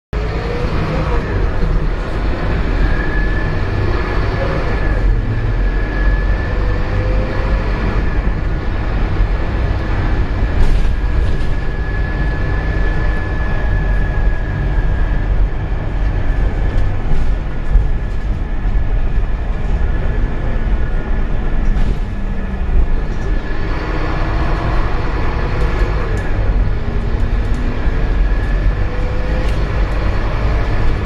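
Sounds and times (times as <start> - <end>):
bus diesel engine rumble: 0.1 - 31.0.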